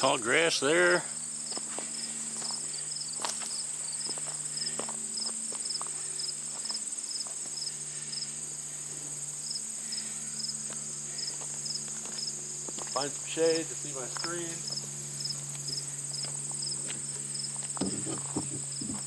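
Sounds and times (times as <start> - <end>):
cricket chirping: 0.0 - 19.0
high-pitched insect trill: 0.0 - 19.0.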